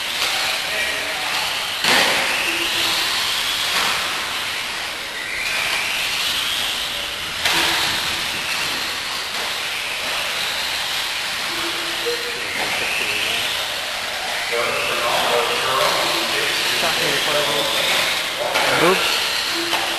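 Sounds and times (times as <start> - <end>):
rc car motors whining: 0.0 - 19.9.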